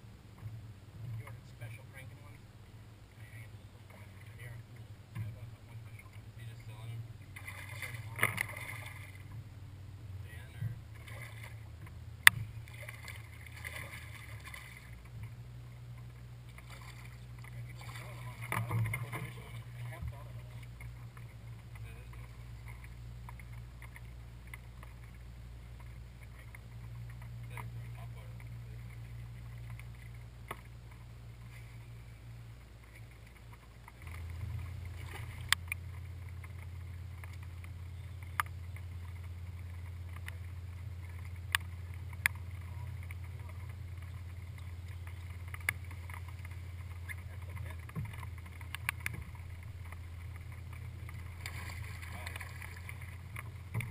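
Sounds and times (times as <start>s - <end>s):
electric trolling motor hum: 0.0s - 53.9s.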